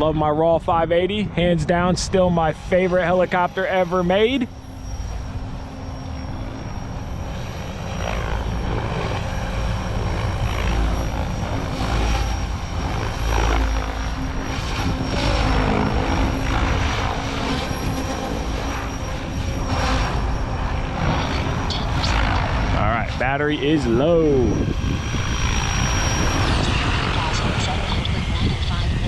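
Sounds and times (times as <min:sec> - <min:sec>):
electric motor whining: 0:02.8 - 0:29.0.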